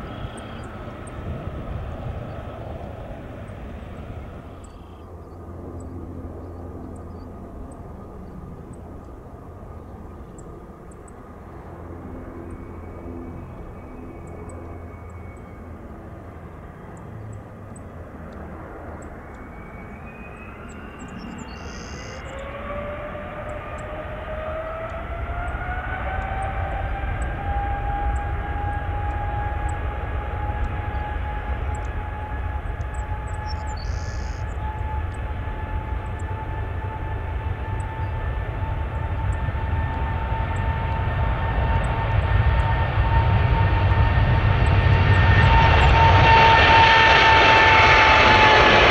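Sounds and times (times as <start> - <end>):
jet engines whining: 0.0 - 48.9.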